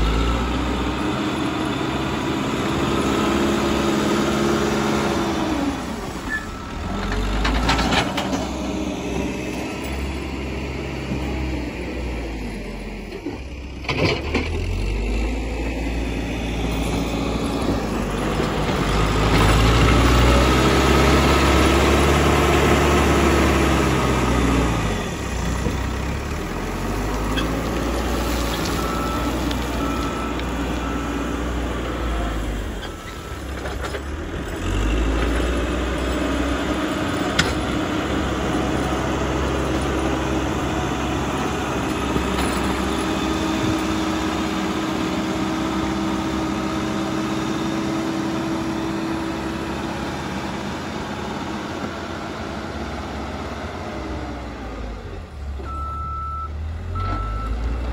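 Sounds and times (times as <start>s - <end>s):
diesel engine revving: 0.0s - 57.9s.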